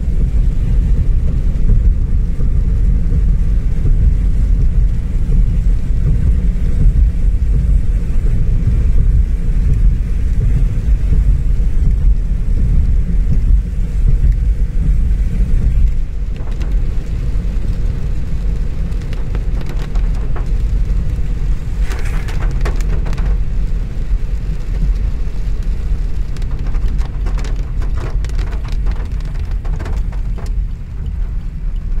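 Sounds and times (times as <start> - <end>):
car driving on wet road: 0.0 - 32.0
rain pattering on car: 0.0 - 32.0.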